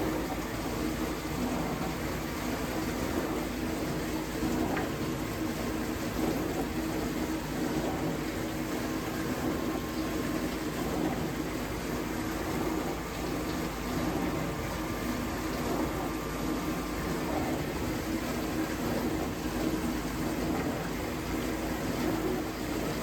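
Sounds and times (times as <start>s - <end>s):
dishwasher pump motor humming: 0.0s - 23.0s
water washing inside dishwasher: 0.0s - 23.0s.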